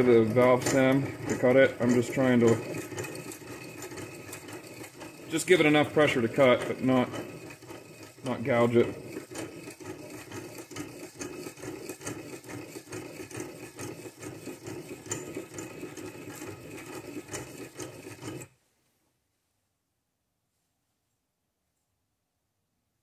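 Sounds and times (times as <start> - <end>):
grinding wheel rasping on metal: 0.0 - 18.5.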